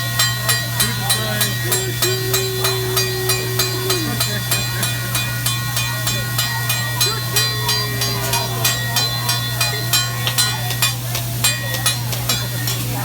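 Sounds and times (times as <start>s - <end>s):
cooking hum and hiss: 0.0s - 13.0s
metal spatula tapping griddle: 0.8s - 13.0s.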